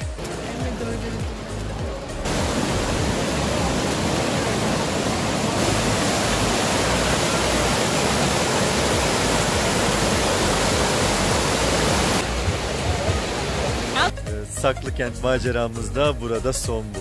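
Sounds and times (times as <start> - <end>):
river water pouring over rocks: 0.0 - 14.1.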